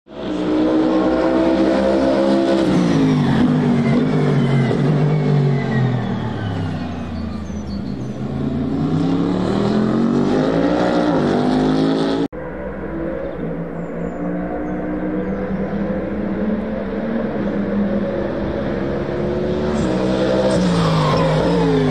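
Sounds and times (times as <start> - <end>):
race car engine: 0.1 - 21.9.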